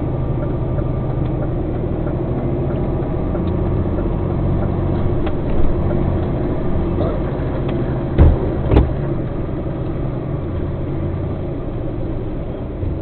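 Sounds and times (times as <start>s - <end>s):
road rumble: 0.0s - 13.0s
truck engine droning: 0.0s - 13.0s.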